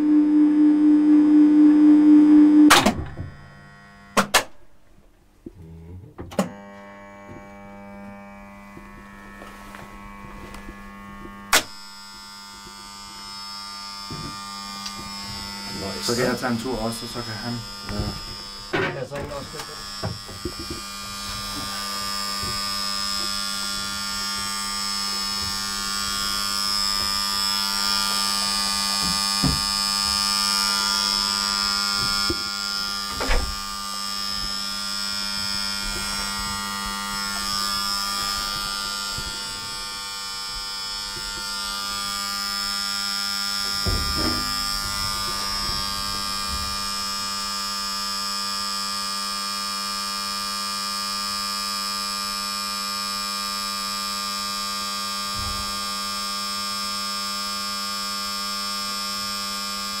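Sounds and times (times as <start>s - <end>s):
electrical hum with whine: 0.0s - 60.0s.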